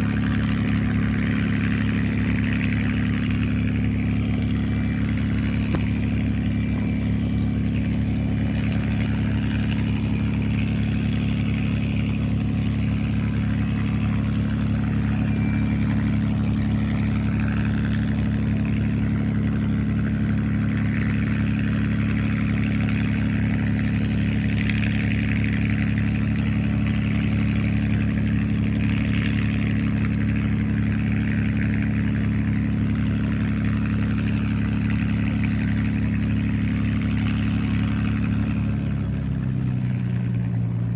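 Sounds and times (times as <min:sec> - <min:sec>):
piston aircraft engine idling: 0:00.0 - 0:40.9.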